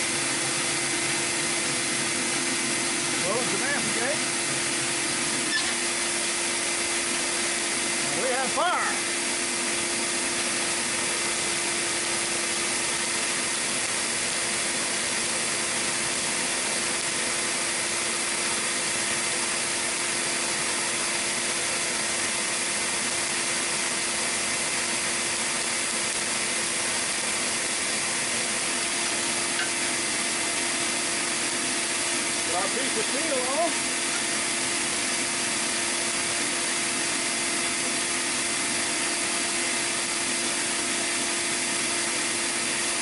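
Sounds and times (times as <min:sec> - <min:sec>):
electric air blower running: 0:00.0 - 0:43.0.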